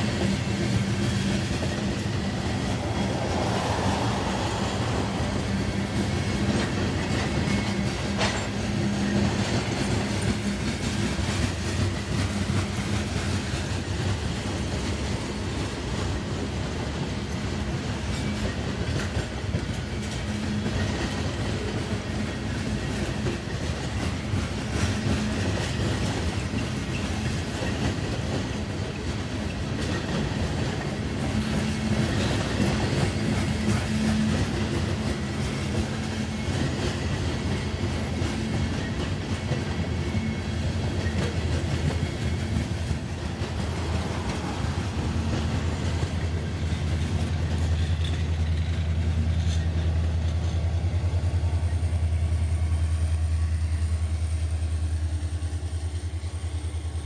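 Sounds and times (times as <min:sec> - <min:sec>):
steel wheels clattering over rails: 0:00.0 - 0:51.8.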